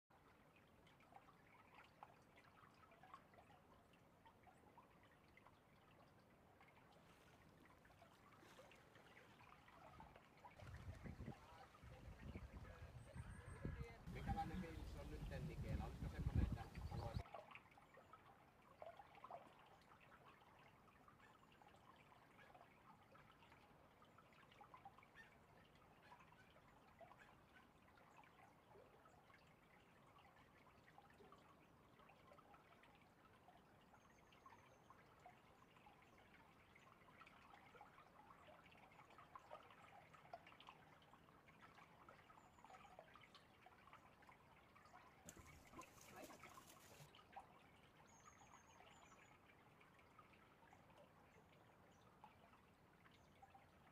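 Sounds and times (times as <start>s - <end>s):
water trickling and dripping: 0.1s - 53.9s.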